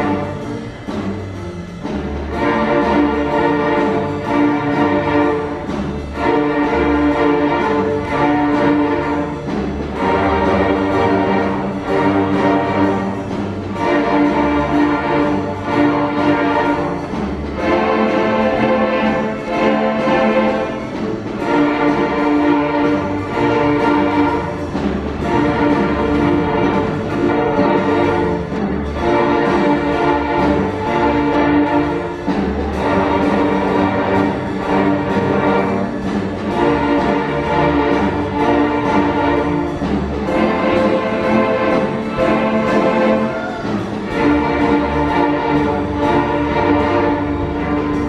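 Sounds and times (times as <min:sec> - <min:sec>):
string orchestra playing chords: 0:00.0 - 0:48.0.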